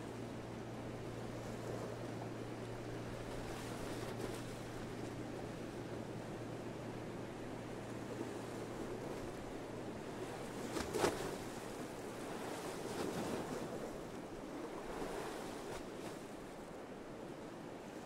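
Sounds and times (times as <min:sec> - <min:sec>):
sea waves: 0:00.0 - 0:18.0.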